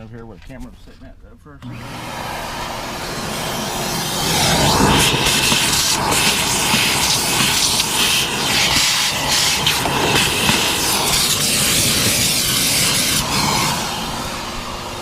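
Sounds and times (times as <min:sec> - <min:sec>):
shop vac sucking debris: 0:01.6 - 0:15.0.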